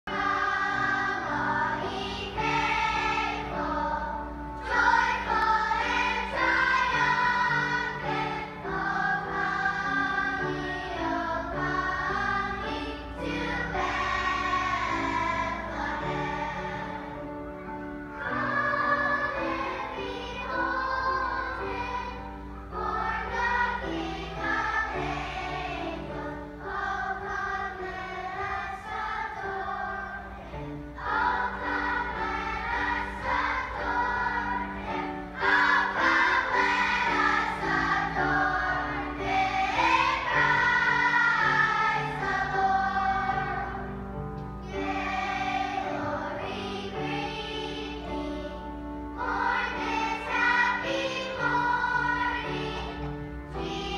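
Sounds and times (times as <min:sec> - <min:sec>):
children's choir singing: 0:00.0 - 0:53.9.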